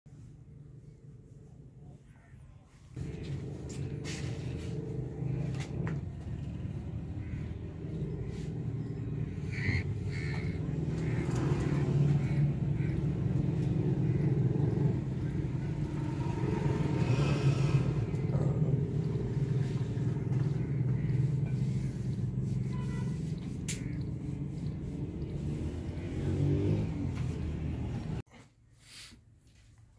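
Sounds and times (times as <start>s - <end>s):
diesel engine rumbling: 3.0s - 28.2s.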